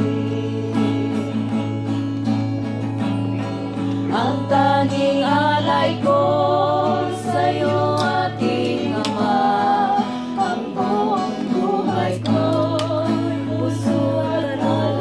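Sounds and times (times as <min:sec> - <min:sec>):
woman singing: 0:00.0 - 0:01.8, 0:04.0 - 0:15.0
acoustic guitar: 0:00.0 - 0:15.0.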